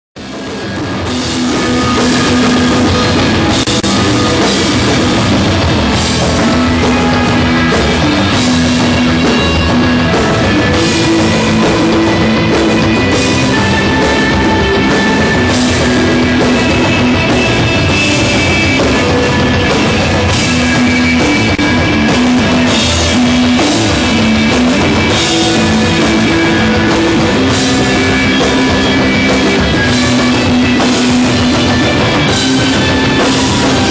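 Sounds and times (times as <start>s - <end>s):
drum kit: 0.2s - 33.9s
electric guitar: 0.2s - 33.9s.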